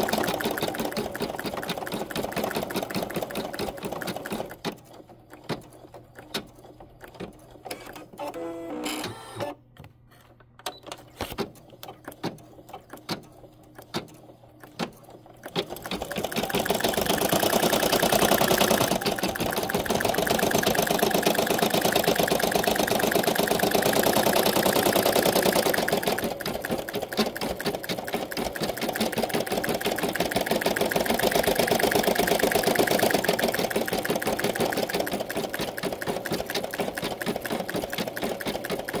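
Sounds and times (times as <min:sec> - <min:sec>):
embroidery machine stitching: 0:00.0 - 0:09.6, 0:10.7 - 0:39.0.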